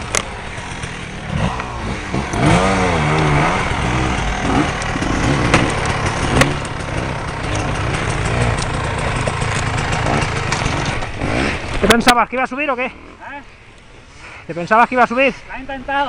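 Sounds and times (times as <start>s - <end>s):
motorcycle engine revving: 0.0s - 13.4s.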